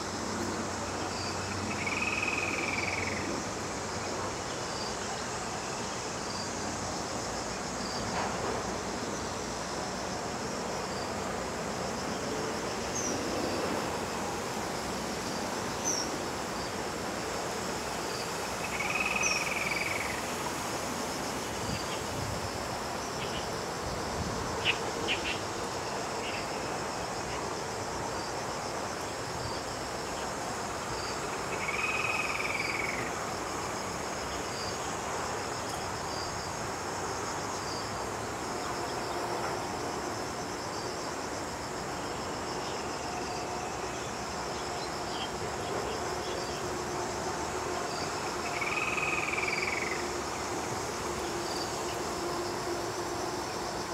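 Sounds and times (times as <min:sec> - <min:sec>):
cicadas chorus: 0:00.0 - 0:53.9
loud insect call: 0:00.0 - 0:53.9.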